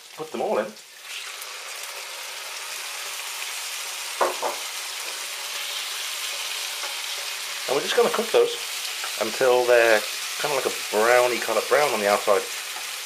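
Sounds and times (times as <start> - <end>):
liver and onion sizzling in a pan: 0.0 - 13.0.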